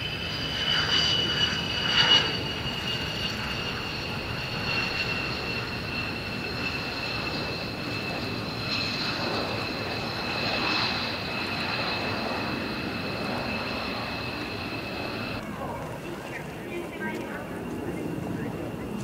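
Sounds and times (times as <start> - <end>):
jet engine roar with whine: 0.0 - 19.0.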